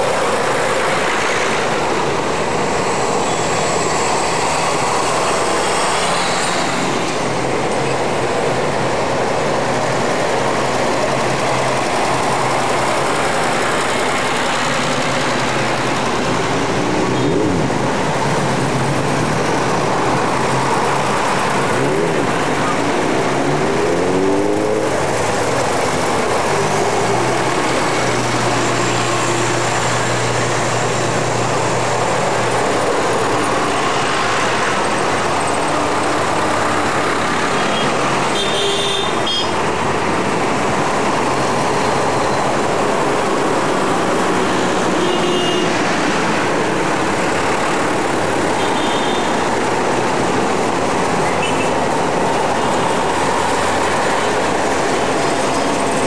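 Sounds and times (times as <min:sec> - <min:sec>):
diesel tractors driving past: 0:00.0 - 0:56.0.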